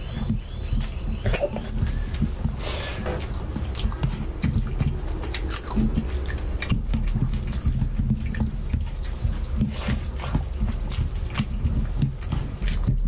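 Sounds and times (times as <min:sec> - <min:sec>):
rice squishing by hand: 0:00.0 - 0:13.0
wet chewing and lip-smacking: 0:00.0 - 0:13.0.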